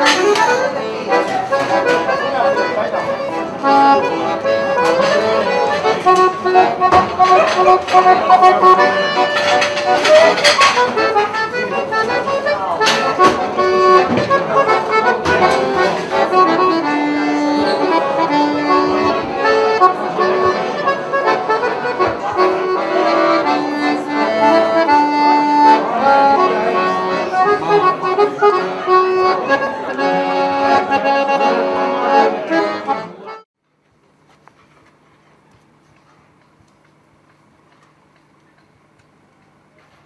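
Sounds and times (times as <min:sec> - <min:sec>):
accordion playing: 0:00.0 - 0:33.4.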